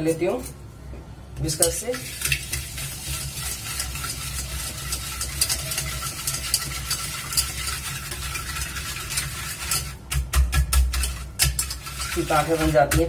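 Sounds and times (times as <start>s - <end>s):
whisk scraping batter: 1.4s - 13.0s.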